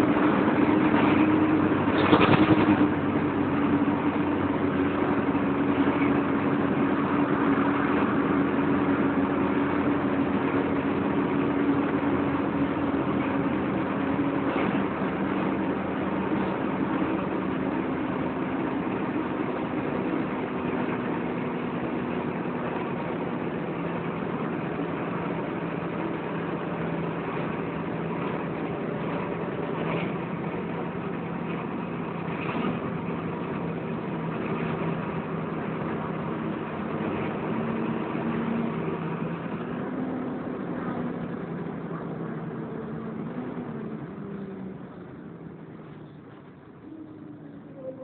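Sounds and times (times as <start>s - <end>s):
bus diesel engine drone: 0.0s - 48.0s.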